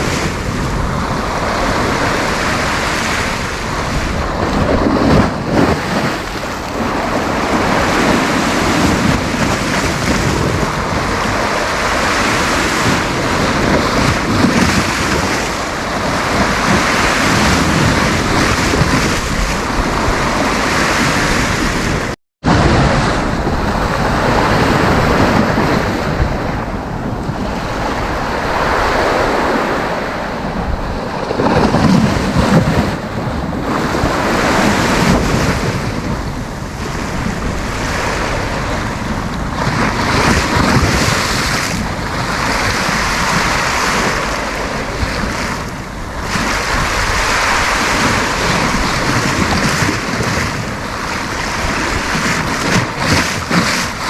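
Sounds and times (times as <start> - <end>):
sea waves breaking on beach: 0.0 - 54.0
wind buffeting microphone: 0.0 - 54.0.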